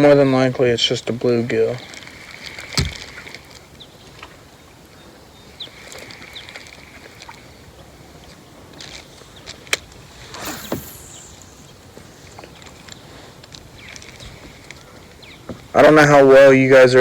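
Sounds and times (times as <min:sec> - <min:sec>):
wind and water hiss: 0:00.0 - 0:17.0.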